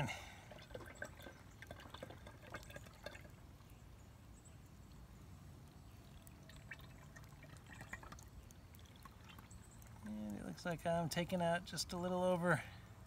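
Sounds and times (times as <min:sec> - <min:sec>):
oil trickling through funnel: 0:00.0 - 0:12.7.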